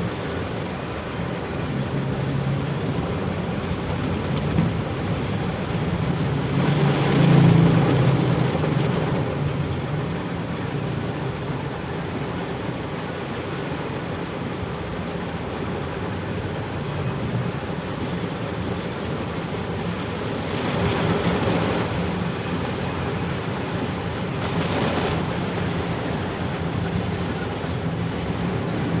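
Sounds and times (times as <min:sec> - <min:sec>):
engine rumble: 0:00.0 - 0:29.0
wind and road noise hiss: 0:00.0 - 0:29.0.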